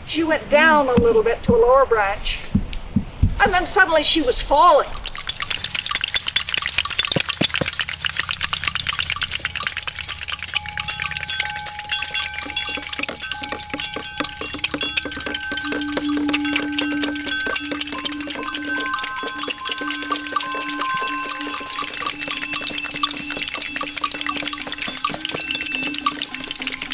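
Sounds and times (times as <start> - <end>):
steady held tones: 4.5 - 26.9
rattles and sticks clattering: 4.9 - 26.9.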